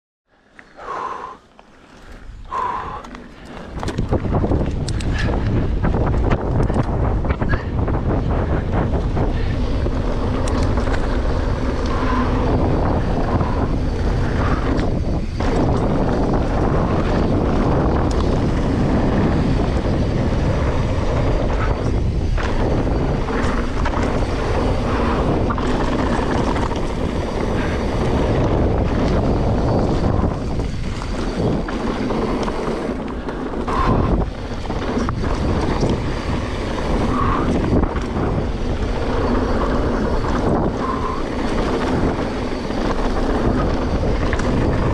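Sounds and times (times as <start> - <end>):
tyres rolling on dirt trail: 0.3 - 44.9
wind buffeting microphone: 2.1 - 44.9.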